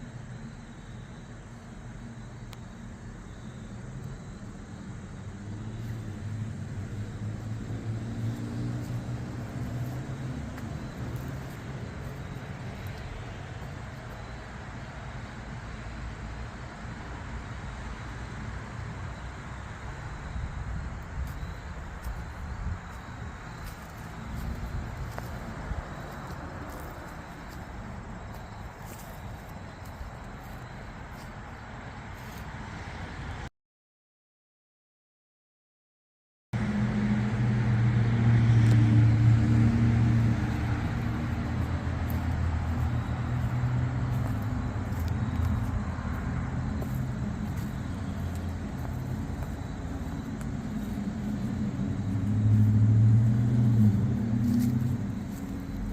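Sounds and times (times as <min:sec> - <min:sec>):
vehicle engine rumbling: 0:00.0 - 0:32.7, 0:36.6 - 0:55.9
rushing background noise: 0:00.0 - 0:33.4, 0:36.6 - 0:55.9.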